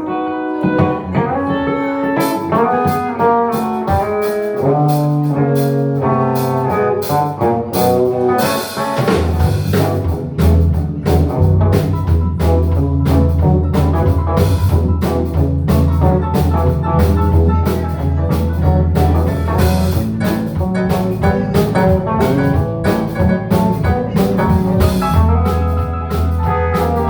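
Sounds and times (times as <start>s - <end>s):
electric guitar melody: 0.0s - 27.0s
heavy bass line: 0.0s - 27.0s
drums and cymbals: 0.7s - 27.0s.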